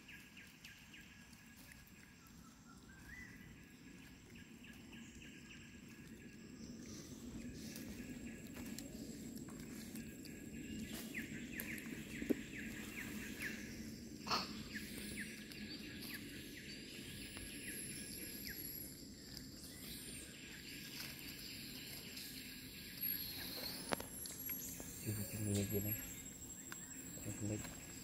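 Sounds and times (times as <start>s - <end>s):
high insect drone: 5.2s - 28.0s.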